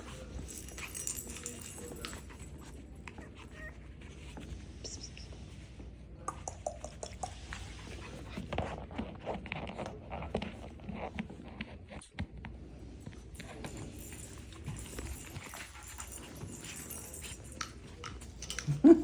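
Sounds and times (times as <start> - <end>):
puppies scuffling and scratching: 0.0 - 19.0.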